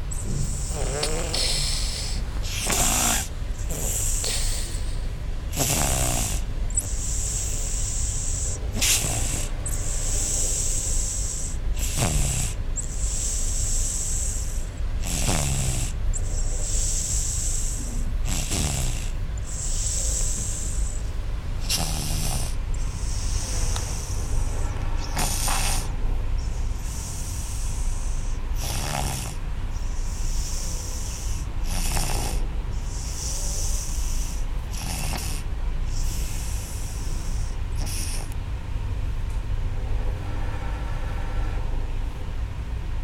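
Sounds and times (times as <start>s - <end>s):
hissing breath: 0.0s - 38.4s
pet snoring: 0.0s - 38.4s.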